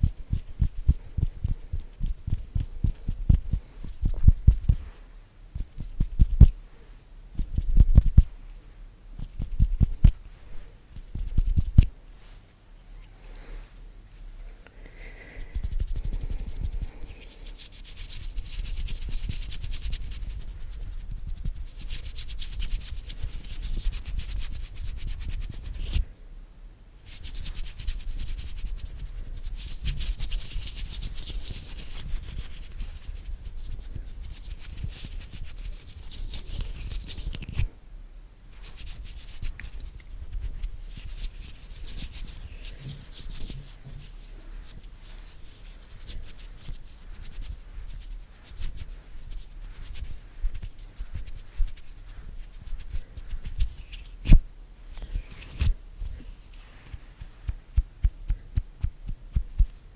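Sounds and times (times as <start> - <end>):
hands rubbing together: 0.0 - 5.0, 9.2 - 13.2, 15.2 - 26.0, 27.1 - 37.6, 38.6 - 59.7.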